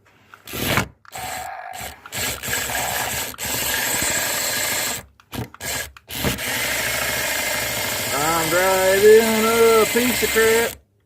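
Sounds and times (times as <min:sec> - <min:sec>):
toy car motor whirring: 0:00.5 - 0:10.8.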